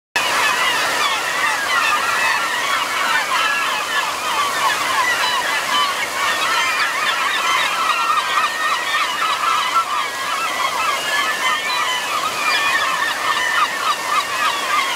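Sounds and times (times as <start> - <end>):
gulls calling: 0.2 - 14.9
stream rapids rushing: 0.2 - 14.9.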